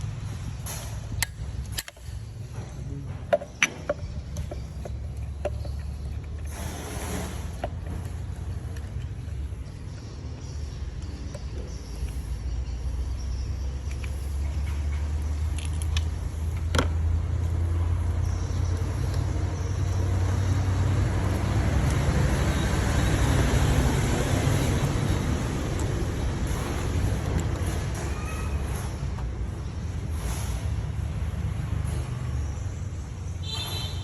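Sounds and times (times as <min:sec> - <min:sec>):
car engine rumbling: 0:00.0 - 0:33.9.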